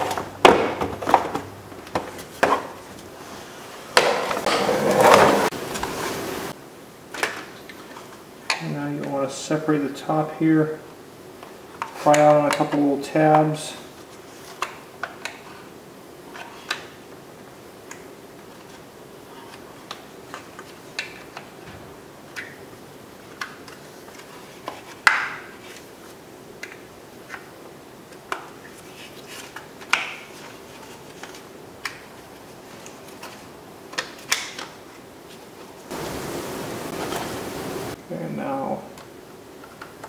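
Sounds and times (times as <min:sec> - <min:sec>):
steady hiss: 0:01.7 - 0:40.0.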